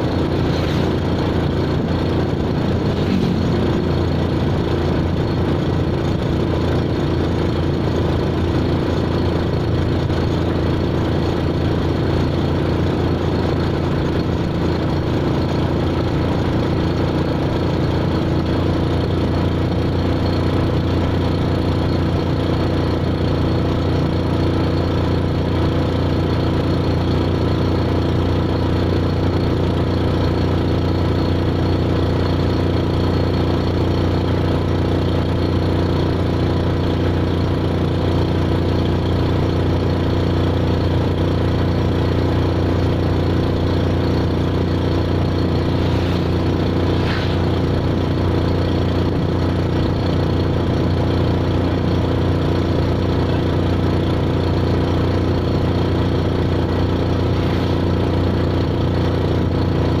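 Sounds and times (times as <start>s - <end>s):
engine running steadily: 0.0s - 60.0s.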